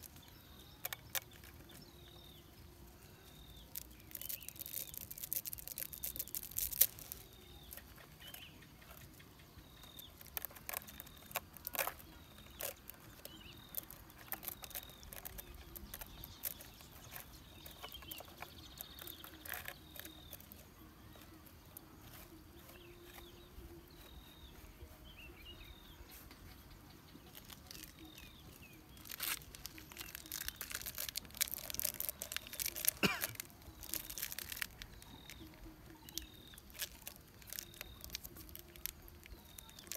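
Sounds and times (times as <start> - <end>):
bird chirping: 0.0 - 39.9
coconut fibre crackling and tearing: 0.0 - 39.9.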